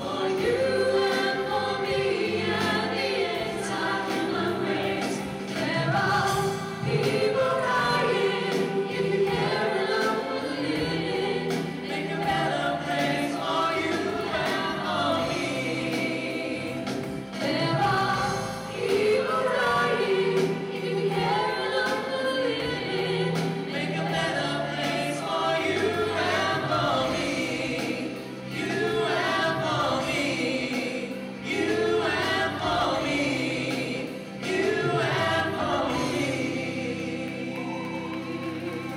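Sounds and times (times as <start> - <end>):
chorus of voices singing: 0.0 - 38.9
pop music: 0.0 - 38.9.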